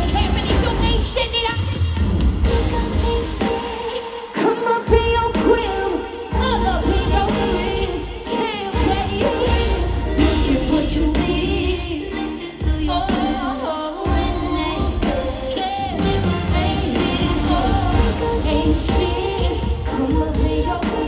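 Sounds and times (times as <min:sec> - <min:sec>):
live pop music with singing: 0:00.0 - 0:21.0.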